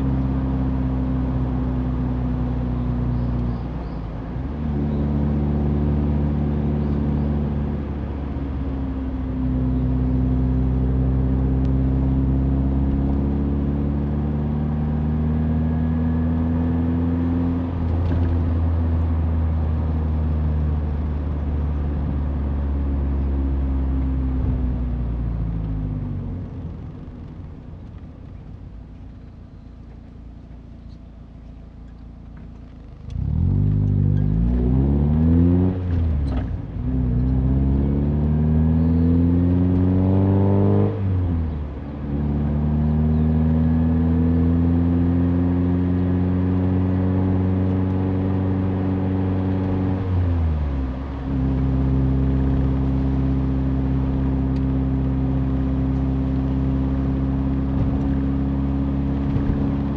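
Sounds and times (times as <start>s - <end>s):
car engine with gear changes: 0.0s - 59.9s.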